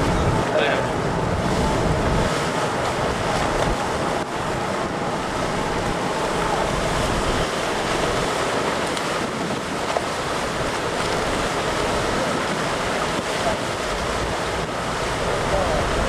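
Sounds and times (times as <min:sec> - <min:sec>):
water churning from propellers: 0:00.0 - 0:16.0.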